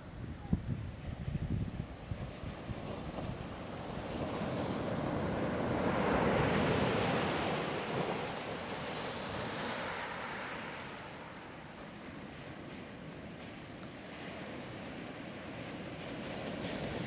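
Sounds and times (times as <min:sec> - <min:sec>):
waves breaking on beach: 0:00.8 - 0:17.0.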